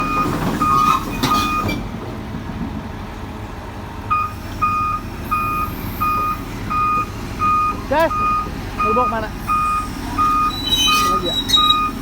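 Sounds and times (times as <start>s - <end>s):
reversing alarm beeps: 0.0s - 1.8s, 4.1s - 12.0s
diesel engine rumbling: 0.0s - 12.0s.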